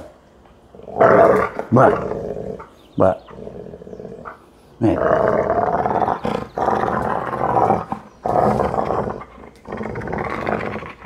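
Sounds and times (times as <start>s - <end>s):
dog growling: 0.0s - 11.0s.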